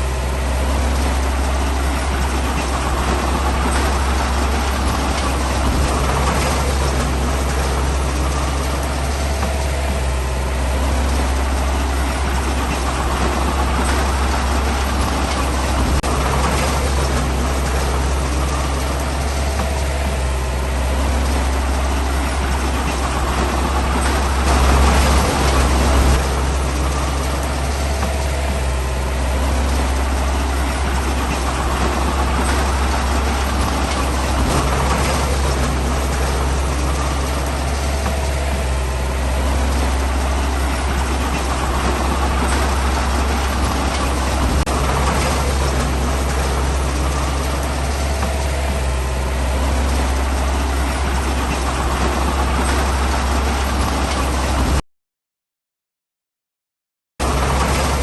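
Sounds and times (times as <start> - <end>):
heavy diesel engine rumbling: 0.0 - 54.8, 57.2 - 58.0.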